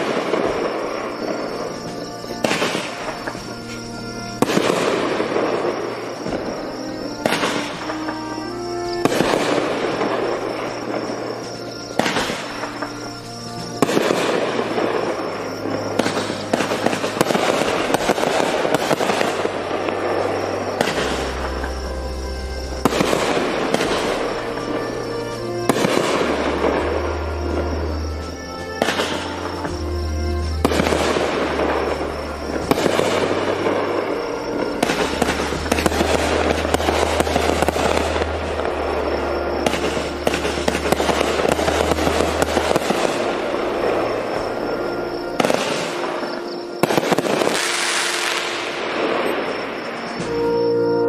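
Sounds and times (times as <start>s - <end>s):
fizz of bursting firework stars: 0.0s - 50.2s
background music: 0.0s - 51.0s.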